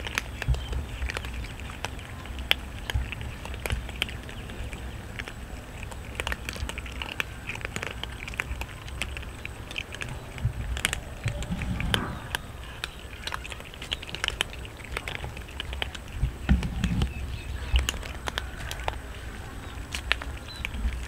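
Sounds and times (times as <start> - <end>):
cats crunching dry kibble: 0.0 - 21.0.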